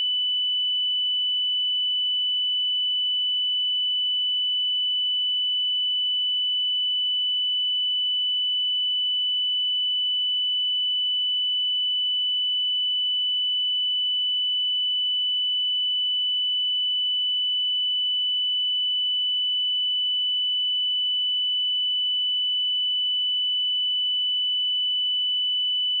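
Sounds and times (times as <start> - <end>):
high-pitched sine-wave test tone: 0.0 - 26.0.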